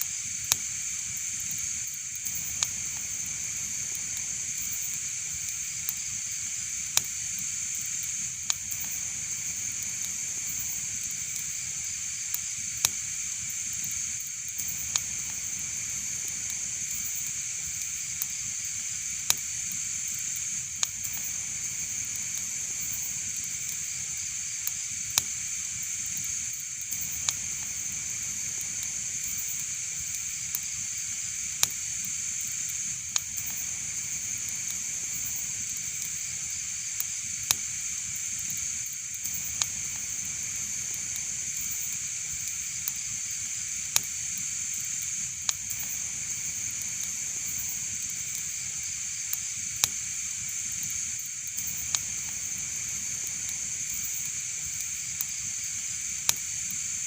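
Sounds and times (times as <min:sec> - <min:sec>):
wood fire hissing and crackling: 0:00.0 - 0:57.0.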